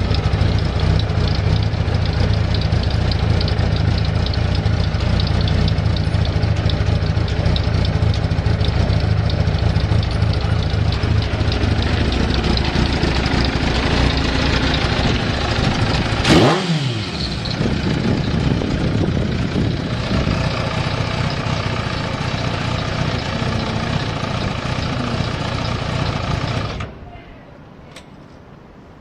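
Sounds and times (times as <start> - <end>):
engine throttle blip: 0.0 - 27.0
motorcycle engine idling: 0.0 - 27.0.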